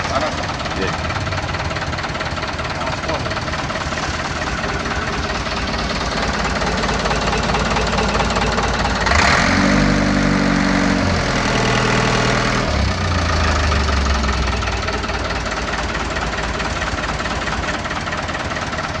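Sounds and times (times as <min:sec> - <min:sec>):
truck engine clattering: 0:00.0 - 0:19.0.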